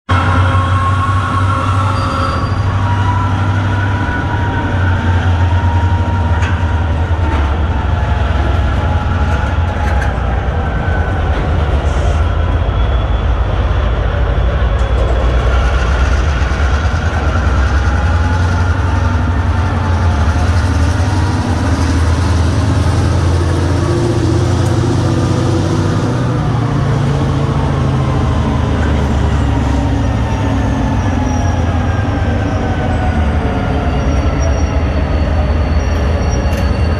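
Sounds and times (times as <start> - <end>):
diesel locomotive engine drone: 0.0 - 36.9
wheels squealing on rails: 0.1 - 36.9.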